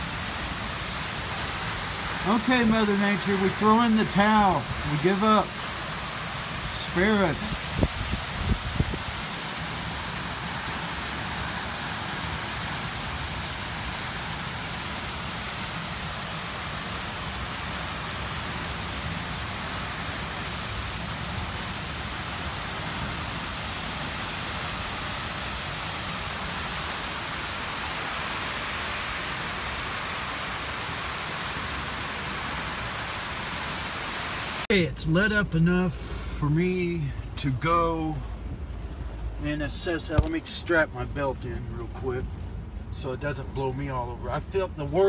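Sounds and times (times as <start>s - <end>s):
heavy rain pouring: 0.0s - 34.7s, 35.5s - 42.9s.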